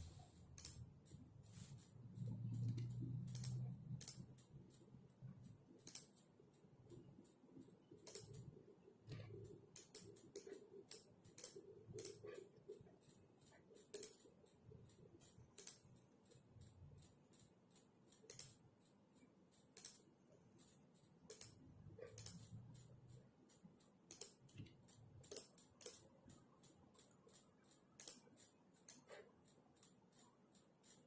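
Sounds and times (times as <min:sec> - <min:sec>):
keyboard typing clicks: 0:01.5 - 0:06.3, 0:06.9 - 0:17.4, 0:18.1 - 0:18.6, 0:19.6 - 0:31.0.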